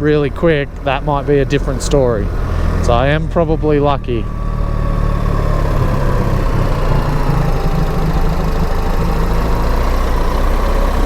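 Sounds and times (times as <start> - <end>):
motorcycle engine low drone: 0.0 - 11.0.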